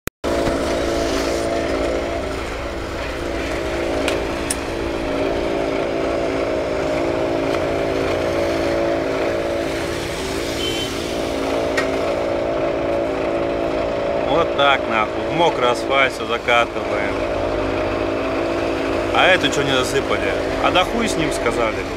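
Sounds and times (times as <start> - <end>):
engine humming: 0.2 - 21.9.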